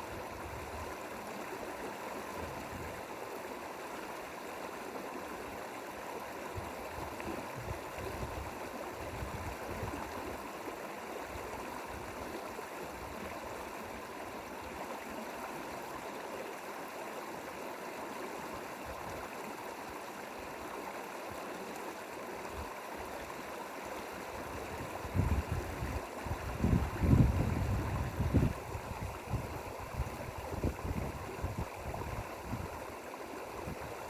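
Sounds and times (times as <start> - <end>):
stream rushing water: 0.0 - 34.0.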